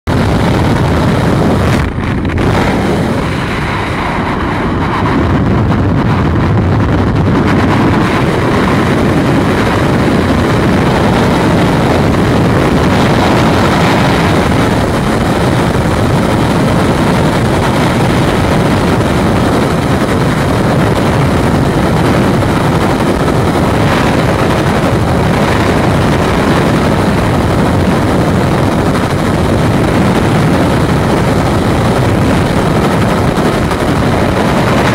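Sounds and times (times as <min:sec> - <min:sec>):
propeller engines: 0:00.0 - 0:34.9
freefall wind rushing: 0:00.1 - 0:34.9.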